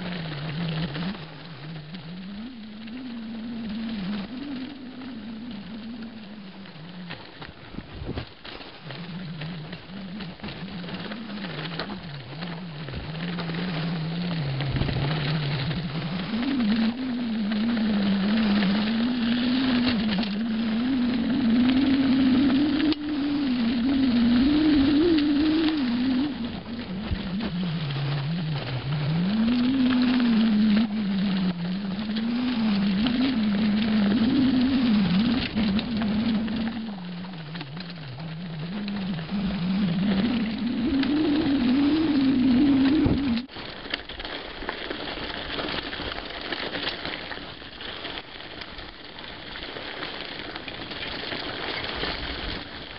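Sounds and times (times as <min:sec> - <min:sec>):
low wavering hum: 0:00.0 - 0:43.5
bike tyres rolling on dirt: 0:00.0 - 0:52.9.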